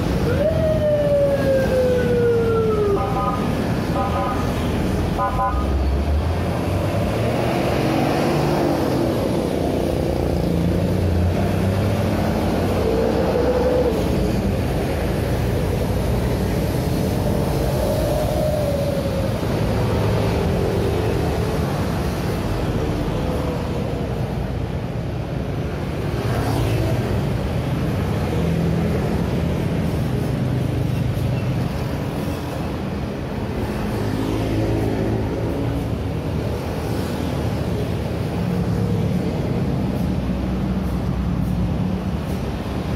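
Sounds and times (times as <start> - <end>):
scooters and cars passing: 0.0 - 42.9.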